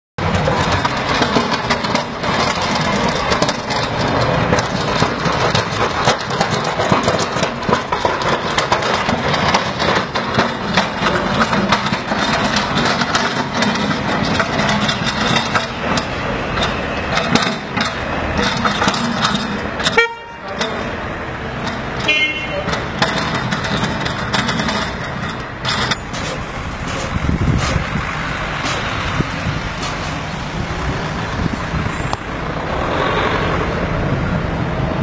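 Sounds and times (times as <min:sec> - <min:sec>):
sharp clicks and knocks: 0:00.2 - 0:32.3
snowplough truck engine running: 0:00.2 - 0:35.0.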